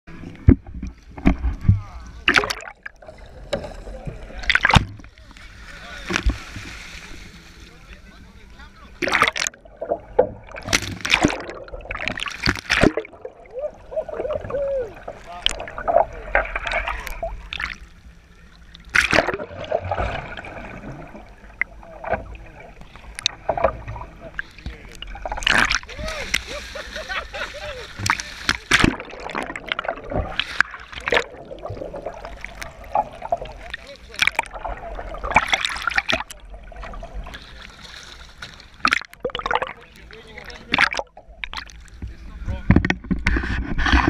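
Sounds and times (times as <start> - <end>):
water splashing and gurgling: 0.1 - 44.0.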